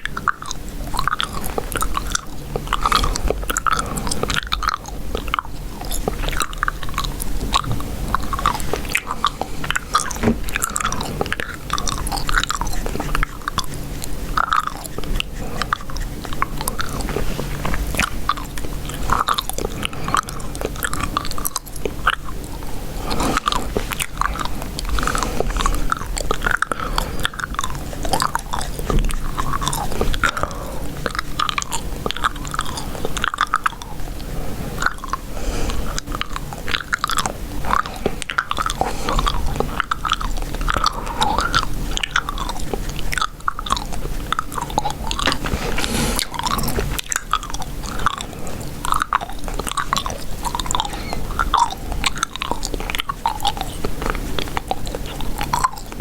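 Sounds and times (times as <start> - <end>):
gum chewing mouth smacks: 0.0 - 56.0.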